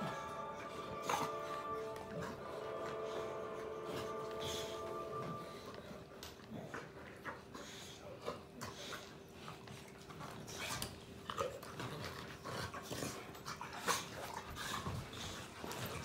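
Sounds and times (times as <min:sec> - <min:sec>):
dogs breathing and mouthing: 0:00.0 - 0:16.0.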